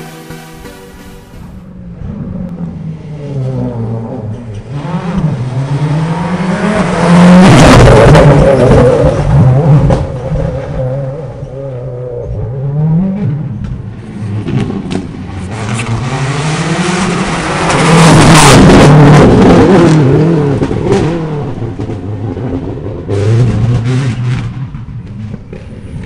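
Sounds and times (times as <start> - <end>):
rally car engine passing by: 1.7 - 26.0.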